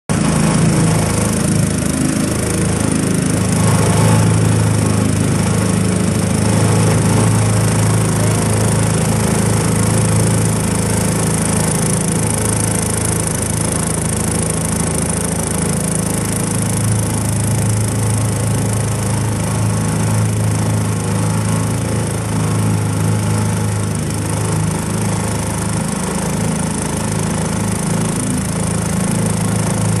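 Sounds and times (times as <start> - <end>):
motorboat engine running: 0.1 - 30.0.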